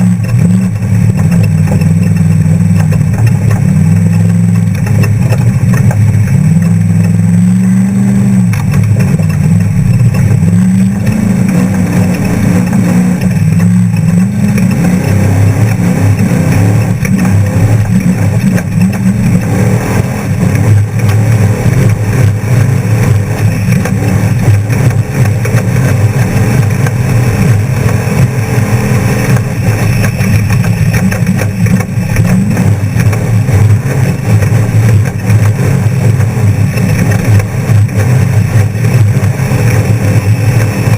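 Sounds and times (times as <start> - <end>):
rushing noise: 0.0 - 40.9
truck engine revving hard: 0.0 - 40.9.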